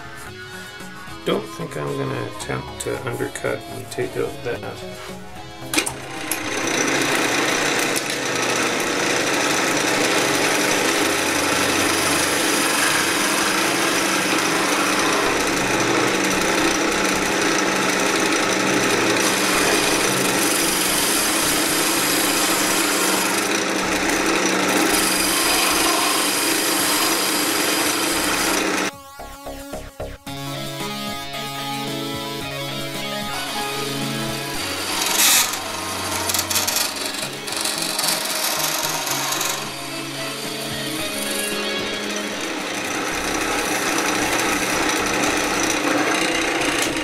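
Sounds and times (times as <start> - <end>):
lathe tool cutting wood: 0.0 - 28.9, 33.0 - 47.0.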